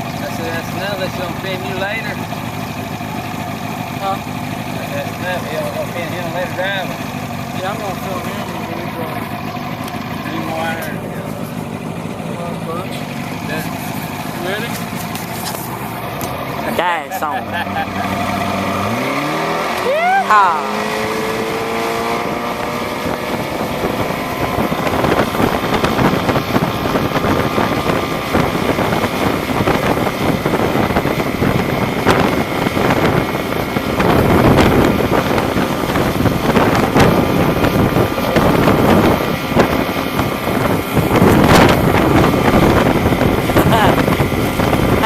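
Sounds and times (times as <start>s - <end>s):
motorboat engine running: 0.0s - 45.0s
wind buffeting microphone: 5.2s - 45.0s.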